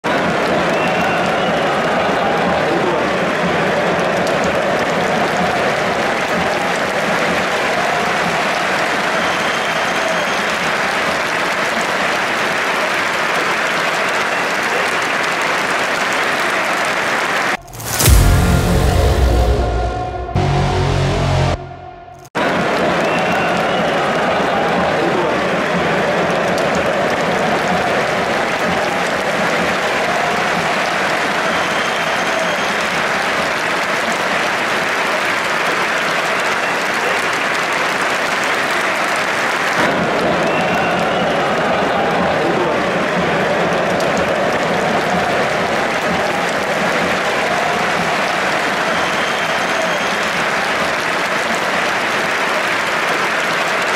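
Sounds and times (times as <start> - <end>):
stadium crowd applauding: 0.0 - 53.9.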